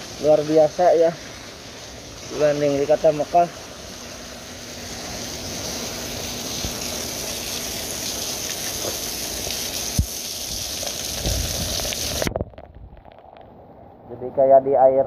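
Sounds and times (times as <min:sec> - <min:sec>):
heavy rain splashing: 0:00.0 - 0:13.6.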